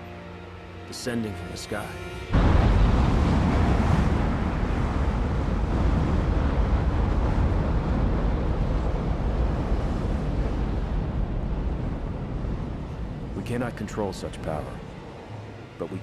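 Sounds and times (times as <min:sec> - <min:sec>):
storm wind roaring: 0:02.3 - 0:16.0.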